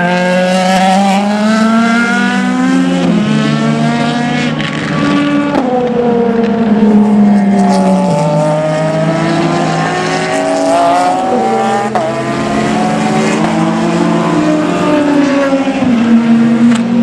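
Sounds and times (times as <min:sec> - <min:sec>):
race car engine accelerating: 0:00.0 - 0:17.0
second race car engine: 0:00.0 - 0:17.0.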